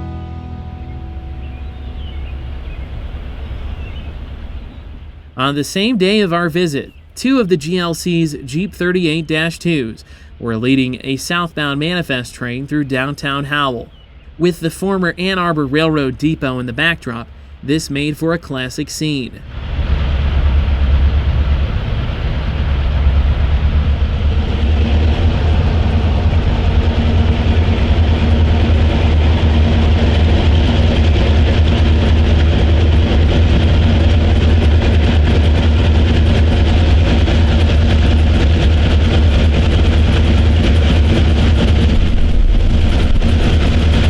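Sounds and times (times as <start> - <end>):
diesel locomotive engine drone: 0.0 - 44.0
train rolling on rails: 0.8 - 44.0.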